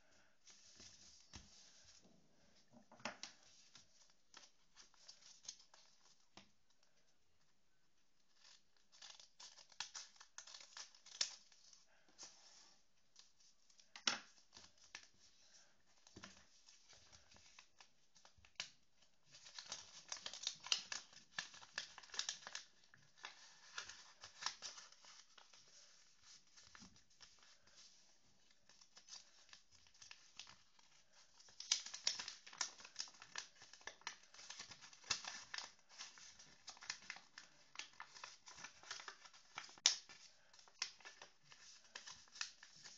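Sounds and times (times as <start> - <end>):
paper crinkling and rustling: 0.4 - 6.8, 8.2 - 42.9.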